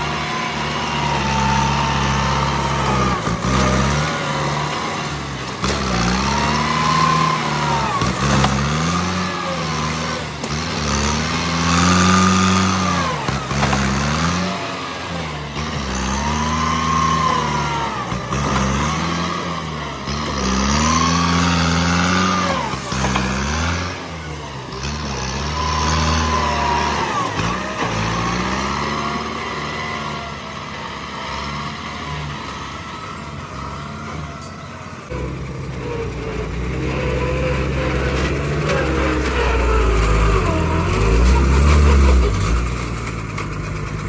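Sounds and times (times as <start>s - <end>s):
bulldozer diesel engine revving: 0.0s - 44.0s
engine whine: 0.0s - 44.0s.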